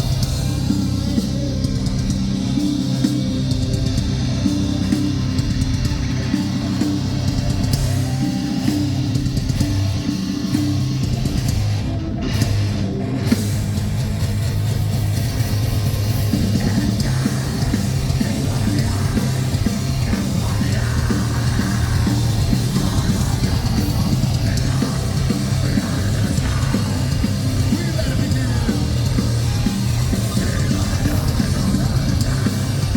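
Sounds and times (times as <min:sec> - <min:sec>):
bass guitar: 0:00.0 - 0:32.9
distorted electric guitars: 0:00.0 - 0:32.9
drums: 0:00.0 - 0:32.9.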